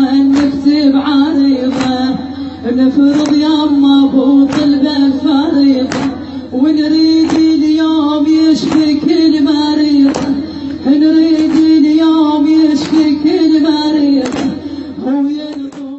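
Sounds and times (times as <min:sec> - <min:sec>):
person singing a wavering lament: 0:00.0 - 0:15.9
sharp beat: 0:00.0 - 0:15.9.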